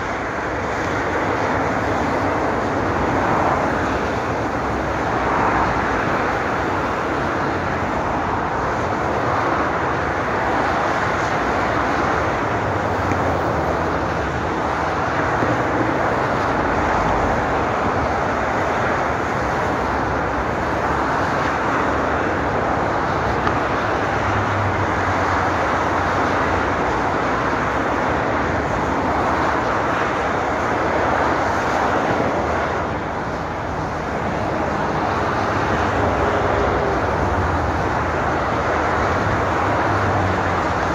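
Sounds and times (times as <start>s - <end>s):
motorway traffic rushing: 0.0s - 40.9s.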